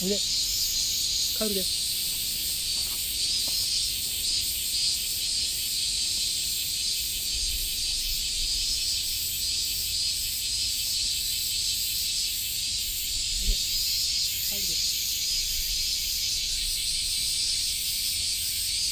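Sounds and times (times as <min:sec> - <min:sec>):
high pulsing insect trill: 0:00.0 - 0:18.9
insects chirping: 0:00.0 - 0:18.9.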